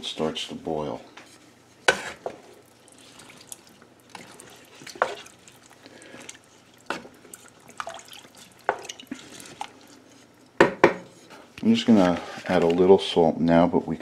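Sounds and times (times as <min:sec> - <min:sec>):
water sloshing in pot: 0:01.4 - 0:13.1.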